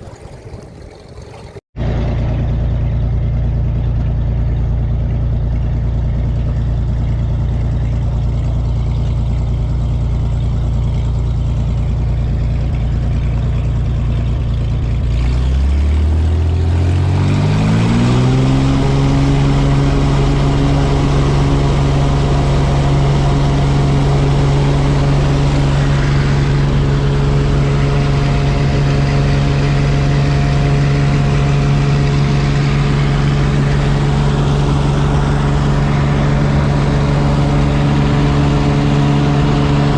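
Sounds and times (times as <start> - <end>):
propeller engine throttling up: 1.8 - 39.9.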